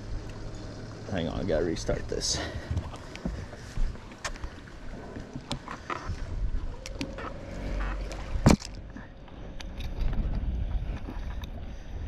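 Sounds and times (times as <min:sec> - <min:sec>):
wind rumbling on microphone: 0:01.6 - 0:12.0.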